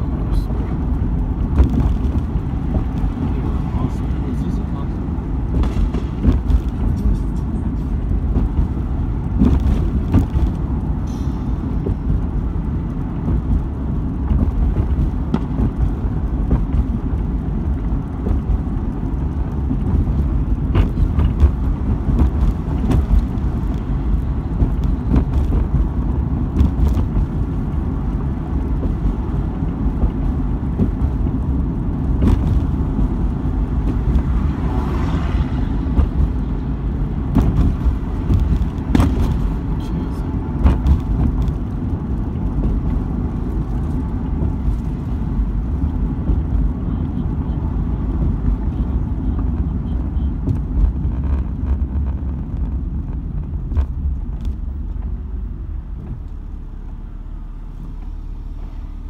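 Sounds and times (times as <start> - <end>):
car interior engine rumble: 0.0 - 59.0.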